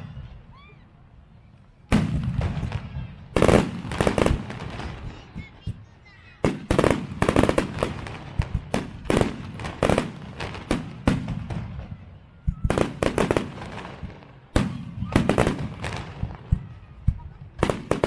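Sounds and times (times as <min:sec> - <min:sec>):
fireworks bangs and crackles: 0:01.8 - 0:18.0.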